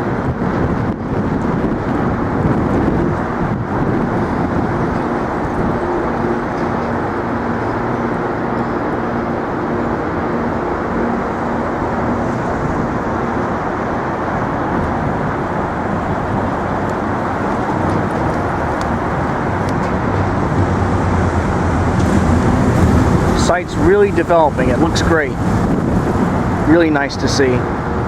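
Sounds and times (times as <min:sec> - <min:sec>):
low engine hum: 0:00.0 - 0:28.0
passing traffic: 0:00.0 - 0:28.0.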